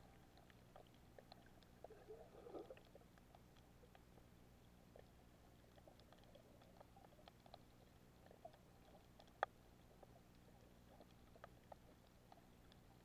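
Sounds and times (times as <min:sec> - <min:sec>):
underwater clicks and crackles: 0:00.0 - 0:13.0.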